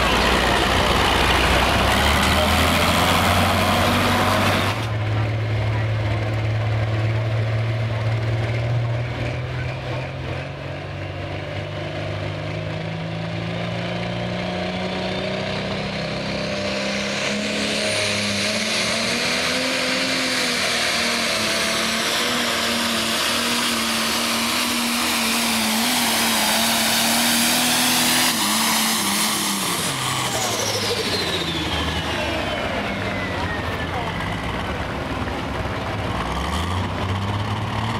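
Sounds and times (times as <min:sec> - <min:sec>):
tractor engine at full power: 0:00.0 - 0:37.9.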